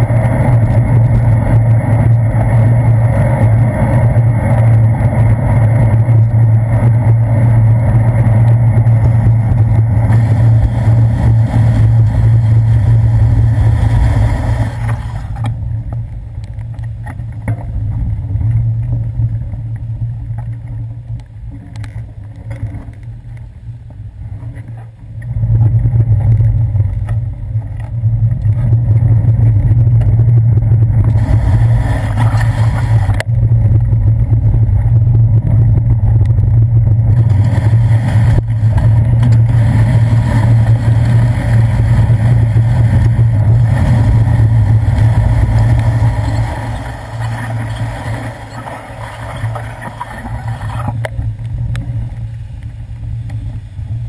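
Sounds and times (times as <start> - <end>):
bicycle riding rumble: 0.0 - 54.0.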